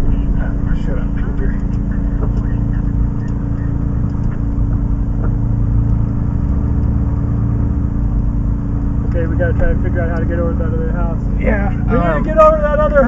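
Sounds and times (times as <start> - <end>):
fire engine motor rumbling: 0.0 - 13.0.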